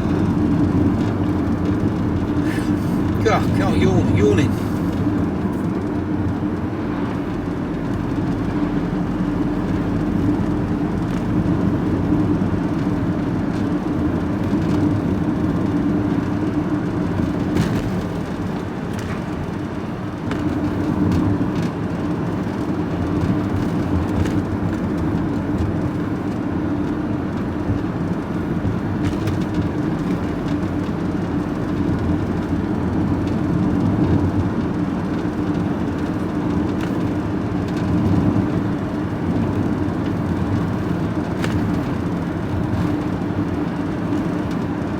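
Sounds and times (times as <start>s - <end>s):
vehicle engine and road drone: 0.0s - 44.9s.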